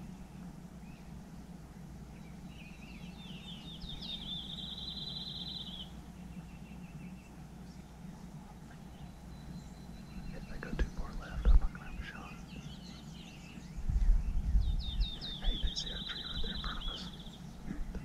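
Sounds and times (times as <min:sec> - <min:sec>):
low background noise: 0:00.0 - 0:18.0
songbird trilling: 0:02.1 - 0:08.0, 0:08.8 - 0:17.6.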